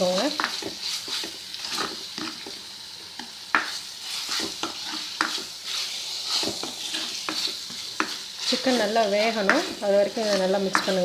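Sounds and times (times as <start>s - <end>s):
food sizzling in a frying pan: 0.0s - 11.0s
spatula scraping a pan: 0.0s - 11.0s.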